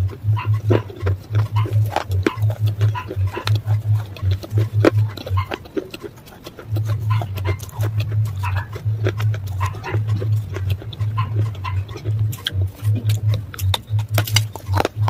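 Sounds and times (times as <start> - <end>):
crunchy chewing: 0.0 - 15.0
low mouth thuds: 0.0 - 15.0.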